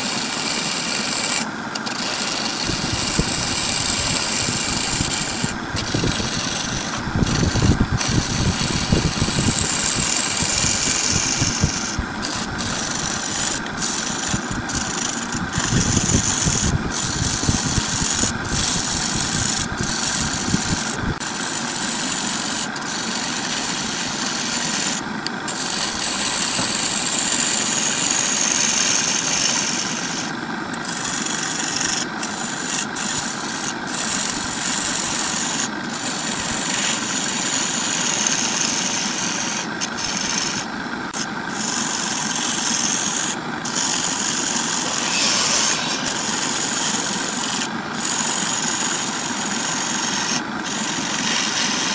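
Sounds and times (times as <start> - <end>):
gouge shaving wood: 0.0 - 51.9
wood lathe motor running: 0.0 - 51.9.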